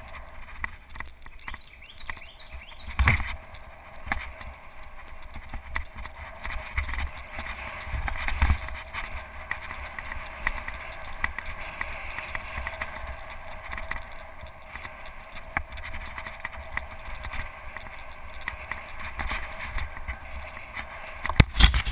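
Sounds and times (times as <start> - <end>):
bike clicks and rattles: 0.0 - 21.9
bike tyres on dirt trail: 0.0 - 21.9
wind rumble on microphone: 0.0 - 21.9.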